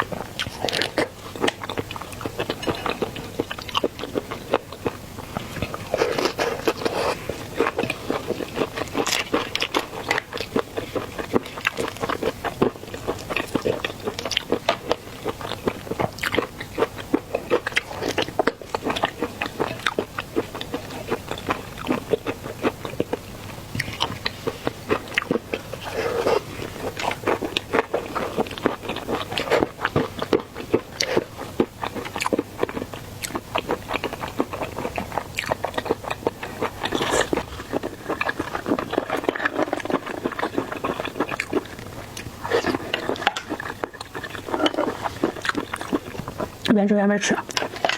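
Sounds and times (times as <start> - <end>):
person chewing seafood: 0.0 - 46.7, 47.4 - 47.9.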